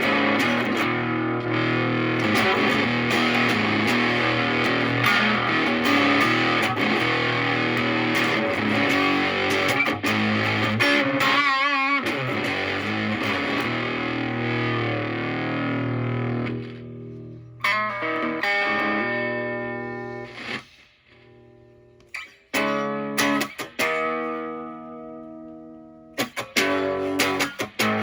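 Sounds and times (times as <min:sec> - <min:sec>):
fuzz electric guitar: 0:00.0 - 0:28.0.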